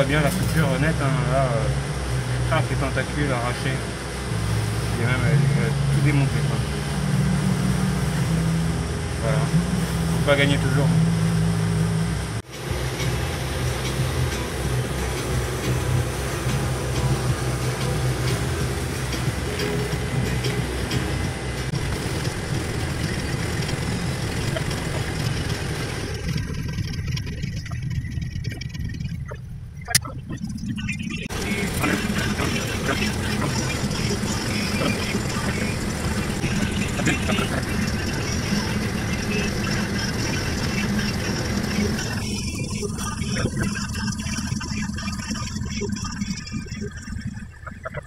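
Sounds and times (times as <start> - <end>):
boat engine drone: 0.0 - 48.0
catamaran low rumble: 0.0 - 48.0.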